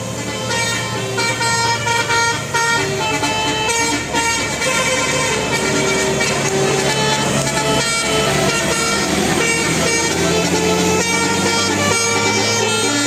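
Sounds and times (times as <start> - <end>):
bus engine running: 0.0 - 13.0
multi-tone bus horn tune: 0.0 - 13.0.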